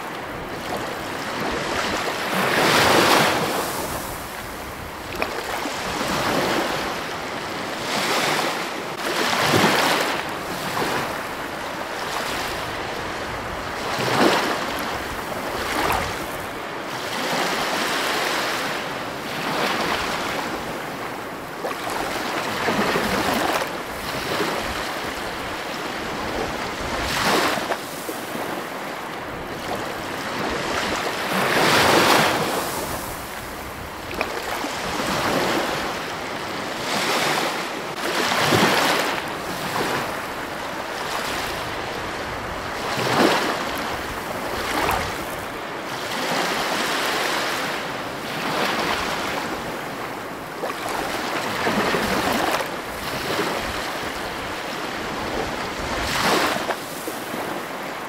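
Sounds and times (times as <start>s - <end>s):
ocean surf breaking on rocks: 0.0s - 58.0s.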